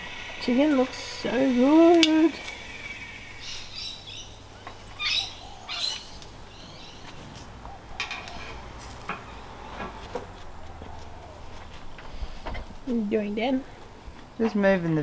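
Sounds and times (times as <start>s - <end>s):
bird chirping: 0.0s - 13.5s.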